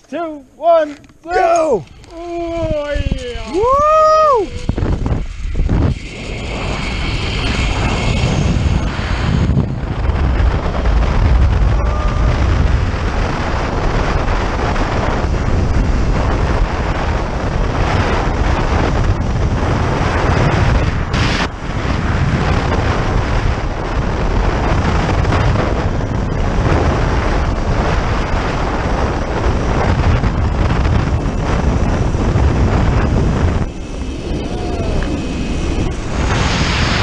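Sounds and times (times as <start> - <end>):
wind buffeting microphone: 0.2 - 37.0.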